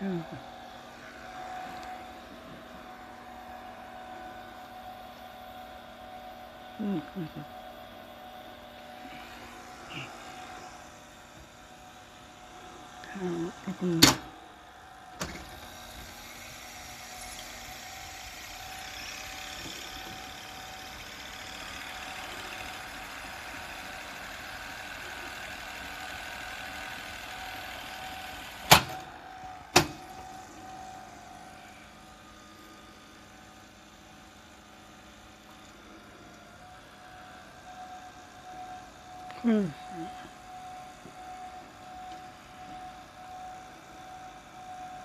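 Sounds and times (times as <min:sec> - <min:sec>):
tape recorder reels whirring: 0:00.0 - 0:45.0.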